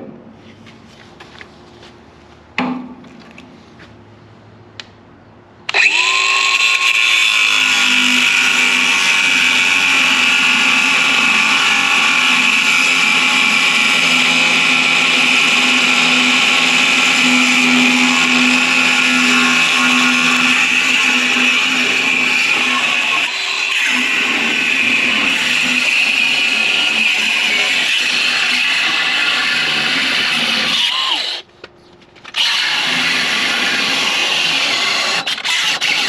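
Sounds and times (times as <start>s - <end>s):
angle grinder cutting steel: 5.7s - 31.4s, 32.3s - 36.0s.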